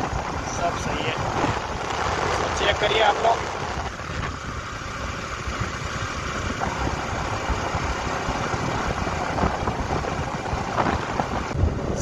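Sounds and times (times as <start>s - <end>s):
motorcycle engine cruising: 0.0s - 12.0s
wind buffeting microphone: 0.0s - 12.0s.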